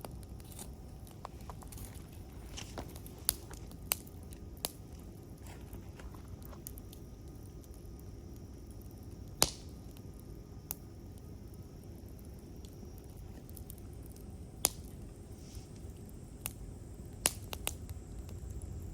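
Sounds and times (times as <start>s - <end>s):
campfire crackling and popping: 0.0s - 18.9s
low hiss of burning wood: 0.0s - 18.9s.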